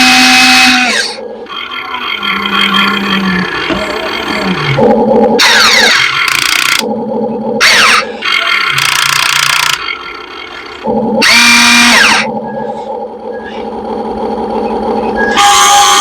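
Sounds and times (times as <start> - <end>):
electric motors humming: 0.0 - 16.0.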